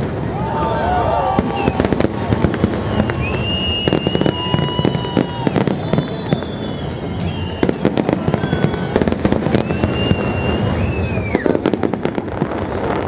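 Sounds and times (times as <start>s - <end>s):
fireworks crackling bangs: 0.0s - 13.0s
firework whistling: 0.8s - 13.0s.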